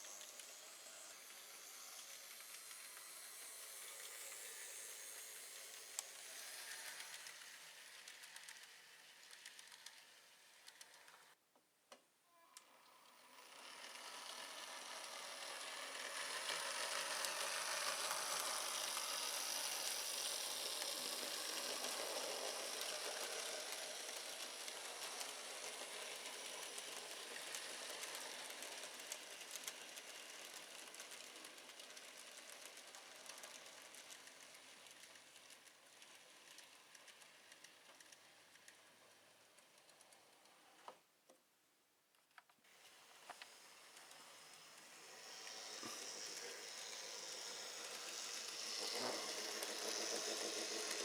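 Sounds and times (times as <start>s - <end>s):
model train running on track: 0.0s - 11.4s, 12.3s - 41.0s, 42.7s - 51.0s.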